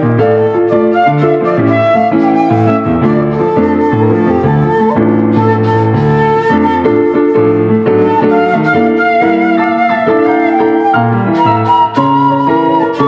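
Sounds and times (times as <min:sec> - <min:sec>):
piano chords: 0:00.0 - 0:13.0
shakuhachi flute melody: 0:00.0 - 0:13.0.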